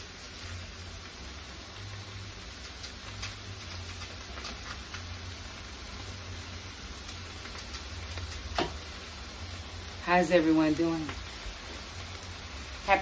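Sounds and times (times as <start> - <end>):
cabbage sizzling in fat: 0.0 - 13.0.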